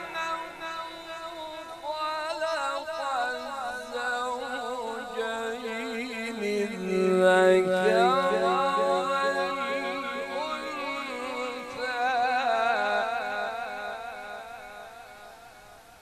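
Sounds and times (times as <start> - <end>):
man reciting with echo: 0.0 - 16.0.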